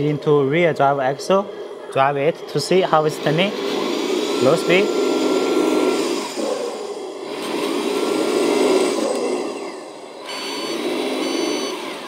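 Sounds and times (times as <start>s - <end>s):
whirring gear whine: 0.0s - 12.0s.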